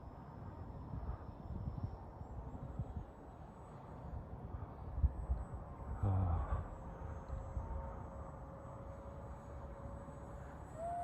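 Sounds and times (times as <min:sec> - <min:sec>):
electric ducted fan whine: 0:00.0 - 0:11.0
low hum: 0:00.0 - 0:11.0.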